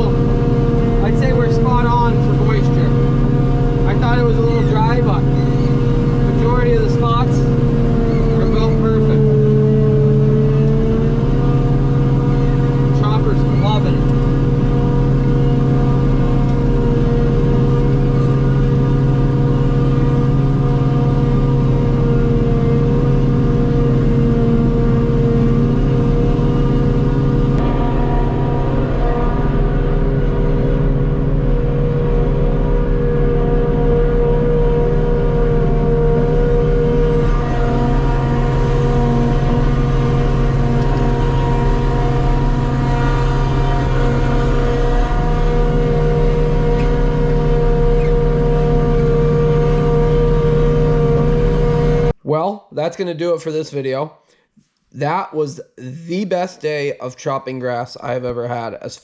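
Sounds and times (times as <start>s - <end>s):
forage harvester engine drone: 0.0s - 52.2s.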